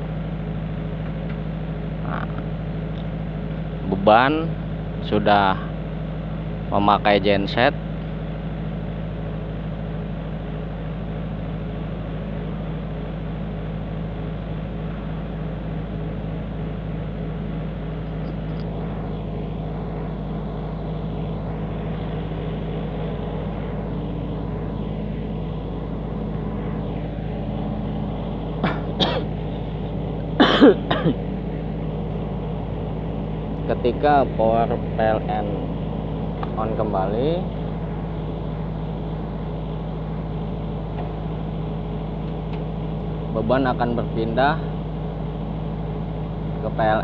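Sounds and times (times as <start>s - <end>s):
diesel generator humming: 0.0s - 47.0s.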